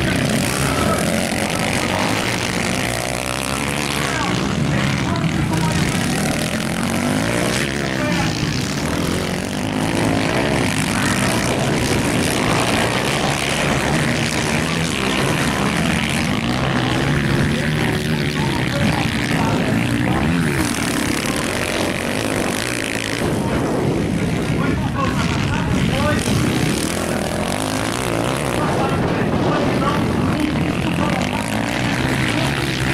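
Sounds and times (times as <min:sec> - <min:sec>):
dirt bike engines revving: 0:00.0 - 0:32.9.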